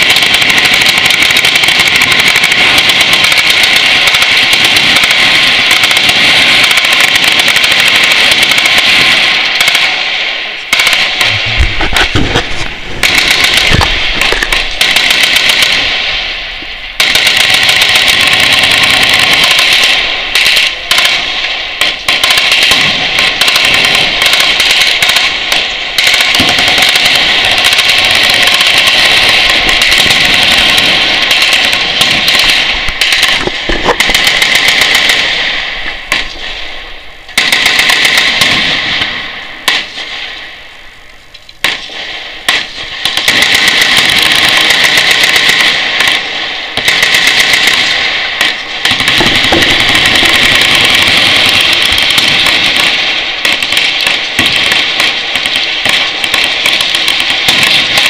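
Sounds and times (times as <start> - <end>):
machine guns firing bursts: 0.0 - 40.4, 41.6 - 58.0.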